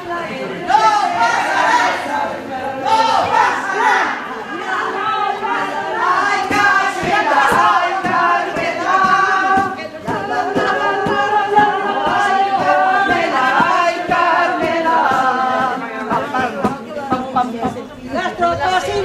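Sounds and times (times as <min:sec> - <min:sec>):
group singing unaccompanied: 0:00.0 - 0:19.0.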